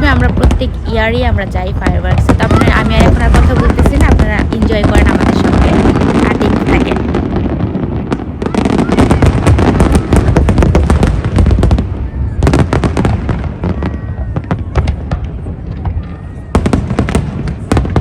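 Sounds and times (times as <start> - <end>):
fireworks crackling bangs and pops: 0.0 - 18.0.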